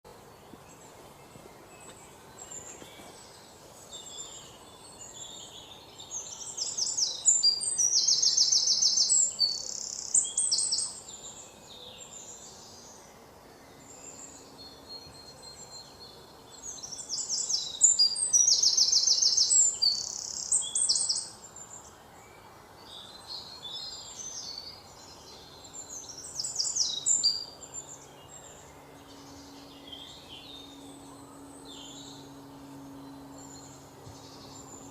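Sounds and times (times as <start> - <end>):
soft bird chirps: 0.1 - 34.9
songbird trilling songs: 0.1 - 34.9.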